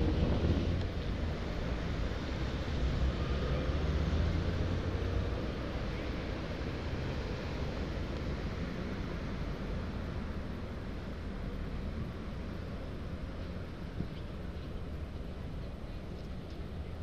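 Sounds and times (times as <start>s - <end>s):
cars driving through: 0.0s - 17.0s
low rumble of engines and tyres: 0.0s - 17.0s.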